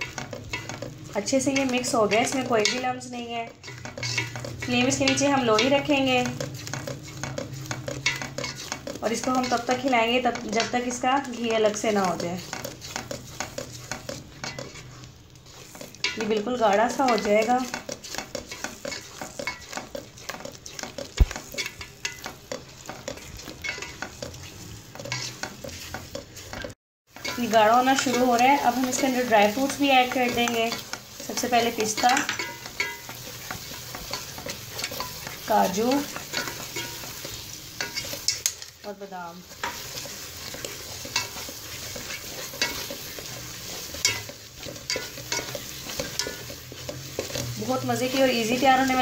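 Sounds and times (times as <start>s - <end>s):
spoon scraping metal pot: 0.0s - 38.7s, 39.5s - 49.0s
oil sizzling: 0.0s - 49.0s.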